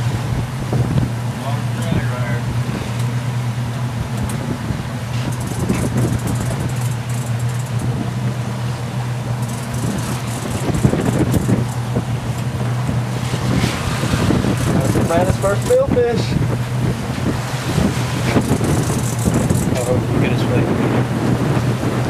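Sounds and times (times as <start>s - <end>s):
boat engine humming: 0.0s - 22.0s
water noise: 0.0s - 22.0s
wind: 0.0s - 22.0s.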